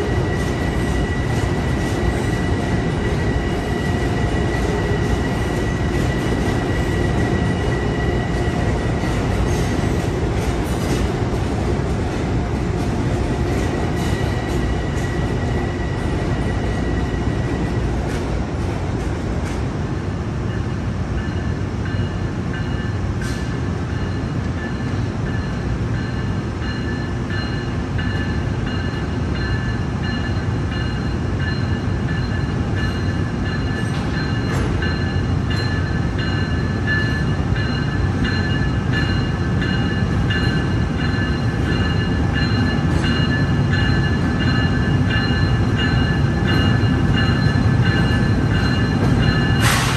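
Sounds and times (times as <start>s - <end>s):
passenger train rumble: 0.0s - 49.9s.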